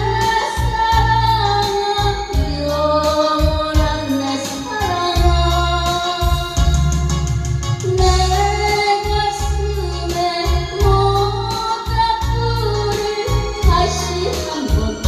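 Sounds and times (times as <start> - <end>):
song with drum beat and bass: 0.0 - 15.0.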